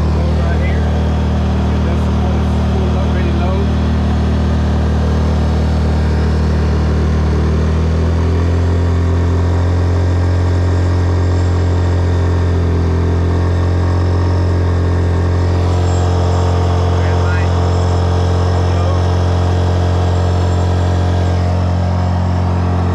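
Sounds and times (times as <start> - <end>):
generator engine running hard: 0.0 - 22.9.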